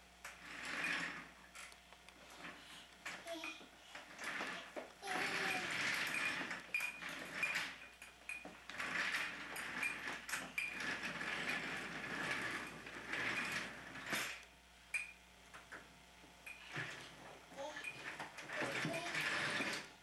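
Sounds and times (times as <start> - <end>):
baby walker clattering and rolling: 0.3 - 14.4, 16.5 - 20.0.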